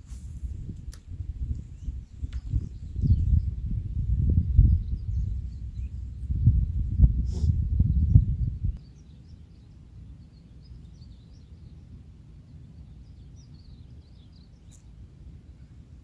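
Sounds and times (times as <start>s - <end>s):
birds chirping: 1.4s - 7.2s, 7.8s - 16.0s.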